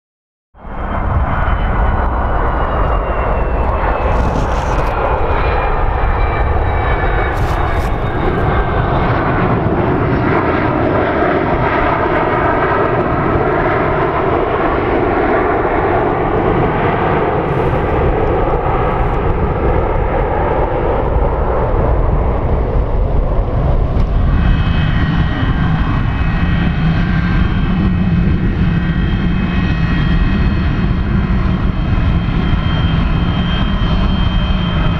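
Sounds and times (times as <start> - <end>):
steady high whine: 0.6 - 13.4, 14.1 - 34.9
falling turbine whine: 0.6 - 34.9
jet engines roaring: 0.6 - 34.9.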